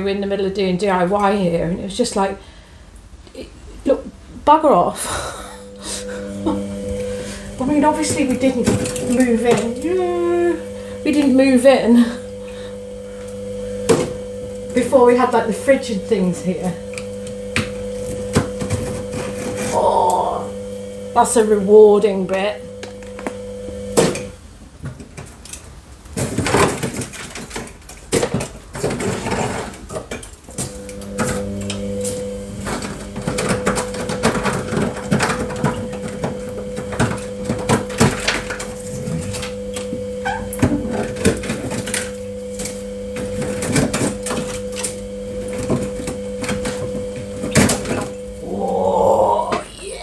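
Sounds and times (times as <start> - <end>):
steady hum: 0.0 - 24.8, 30.5 - 50.0.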